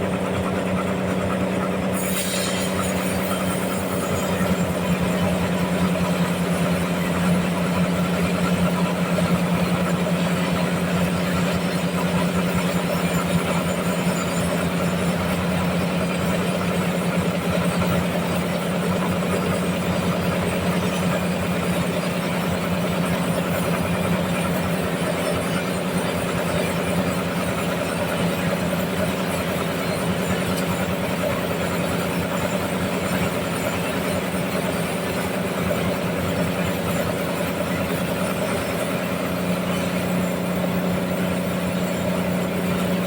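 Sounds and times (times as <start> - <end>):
sawmill machinery hum: 0.0 - 43.0.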